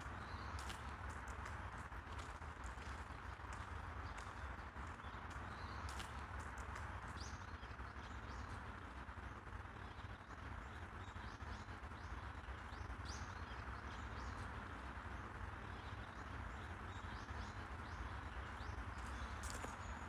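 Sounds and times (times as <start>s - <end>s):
small birds chirping: 0.0s - 1.8s, 2.7s - 9.0s, 9.8s - 20.0s
outdoor ambience hum: 0.0s - 20.0s.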